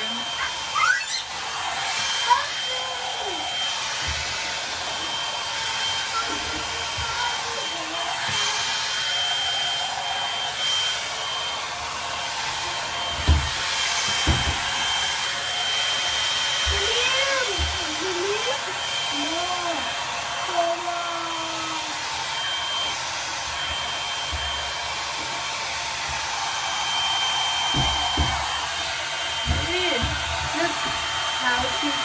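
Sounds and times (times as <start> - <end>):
hot-air brush blowing with motor whine: 0.0 - 32.0.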